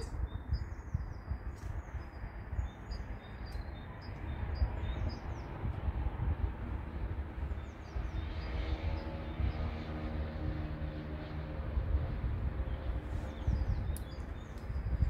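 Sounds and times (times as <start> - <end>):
low fluttering rumble: 0.0 - 15.0.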